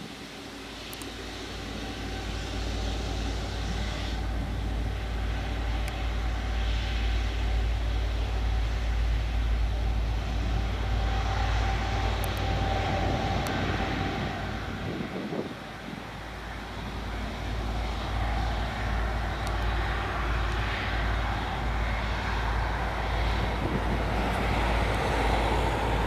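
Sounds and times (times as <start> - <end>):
jet engines rumbling and whining: 0.0 - 26.0.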